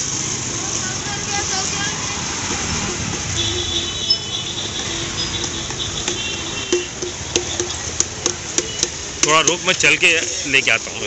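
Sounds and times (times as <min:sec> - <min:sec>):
motor scooters and rickshaws: 0:00.0 - 0:11.0.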